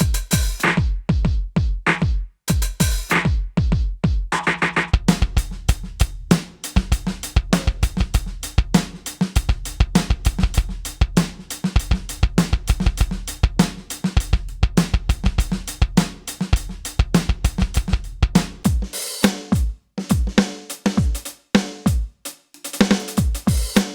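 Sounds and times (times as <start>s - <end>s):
electronic drum kit groove: 0.0s - 23.9s.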